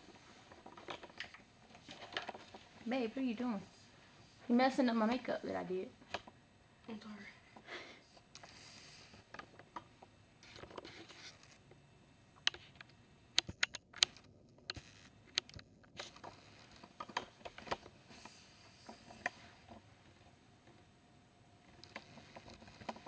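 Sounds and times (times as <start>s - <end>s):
faint room hiss: 0.0s - 23.0s.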